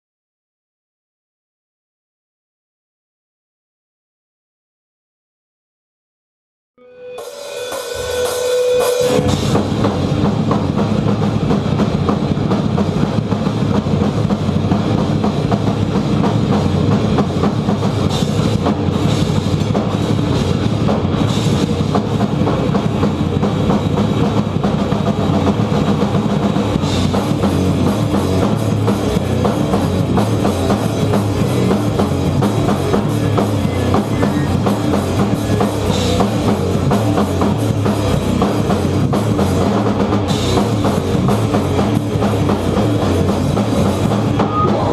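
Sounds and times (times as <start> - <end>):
loud rock music: 6.8 - 44.9.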